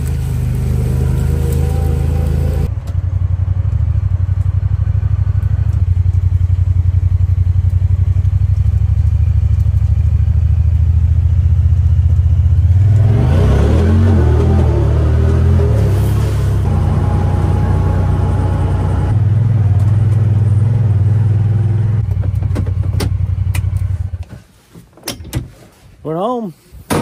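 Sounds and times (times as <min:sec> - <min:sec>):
utility vehicle engine running: 0:00.0 - 0:24.3.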